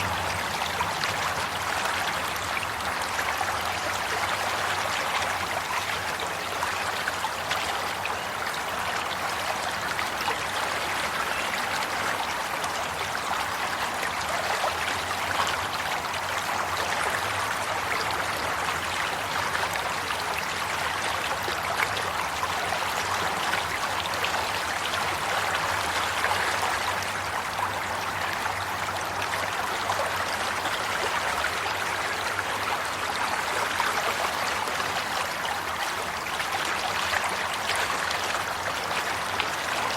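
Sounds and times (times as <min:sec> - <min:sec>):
stream running and trickling: 0:00.0 - 0:39.9.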